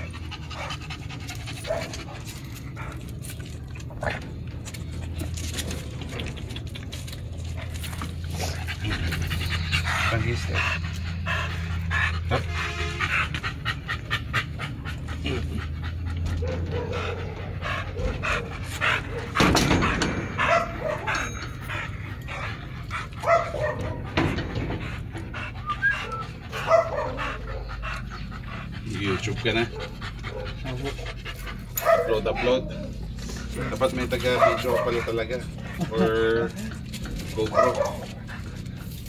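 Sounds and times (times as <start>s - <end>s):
dog panting: 0.0s - 39.0s.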